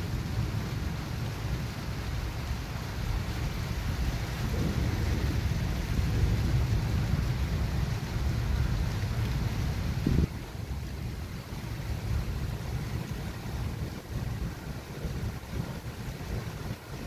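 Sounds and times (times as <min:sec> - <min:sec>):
low thunder rumble: 0:00.0 - 0:17.0.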